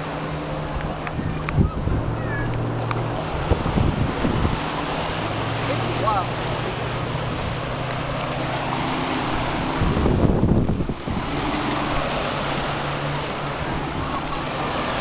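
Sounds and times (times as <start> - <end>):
waves breaking on sand: 0.0 - 15.0
low rumble on microphone: 0.6 - 15.0
wind on microphone: 0.6 - 15.0.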